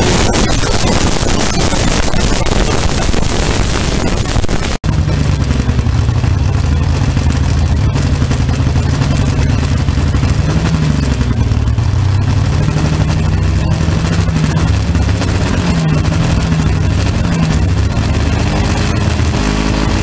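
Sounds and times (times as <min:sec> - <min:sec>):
dragster engine running at low revs: 0:00.0 - 0:20.0.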